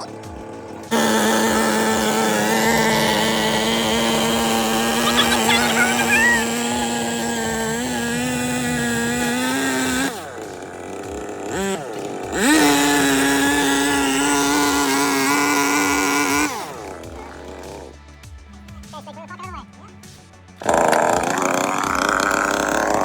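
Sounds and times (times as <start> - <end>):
chainsaw running at full throttle: 0.0 - 23.0.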